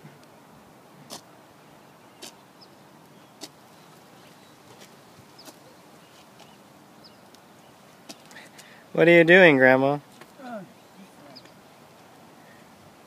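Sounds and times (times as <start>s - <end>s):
faint outdoor hush: 0.0s - 13.0s.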